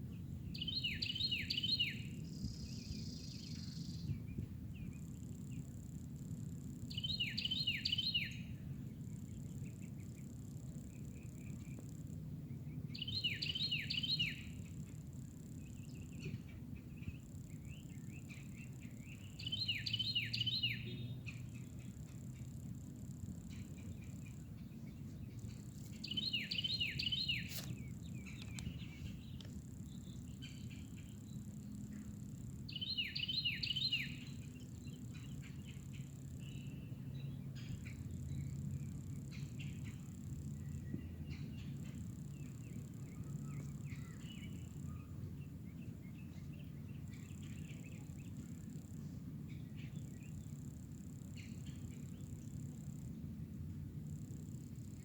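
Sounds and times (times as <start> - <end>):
bird chirps: 0.0 - 5.7, 6.9 - 22.6, 23.4 - 53.0
faint high buzz: 0.0 - 55.0
low background rumble: 0.0 - 55.0
songbird singing: 0.0 - 55.0.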